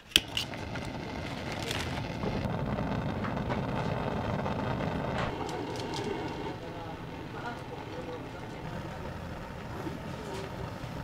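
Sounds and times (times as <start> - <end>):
gas forge burner hissing: 0.0 - 11.0.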